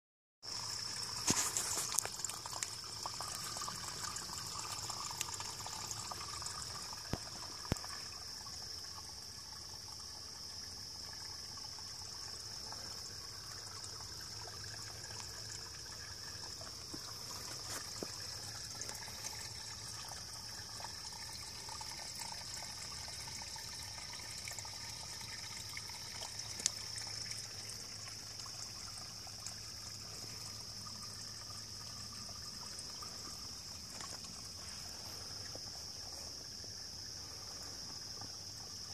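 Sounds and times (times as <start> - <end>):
water trickling over rocks: 0.4 - 38.9.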